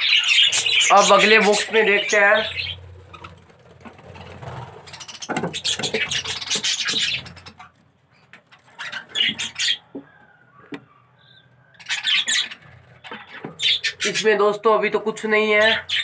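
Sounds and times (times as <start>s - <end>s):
budgerigars calling: 0.0s - 3.5s, 4.1s - 7.8s, 8.5s - 16.0s.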